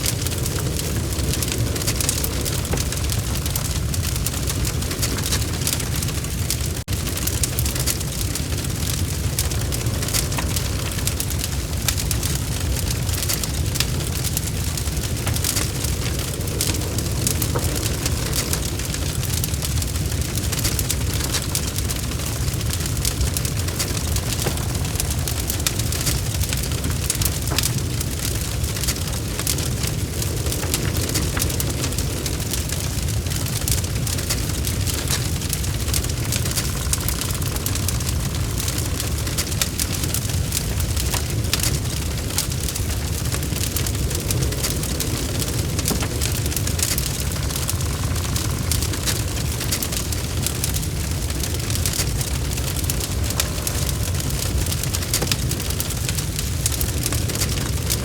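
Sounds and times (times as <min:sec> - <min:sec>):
log fire crackling: 0:00.0 - 0:58.0
low rumble of flames: 0:00.0 - 0:58.0.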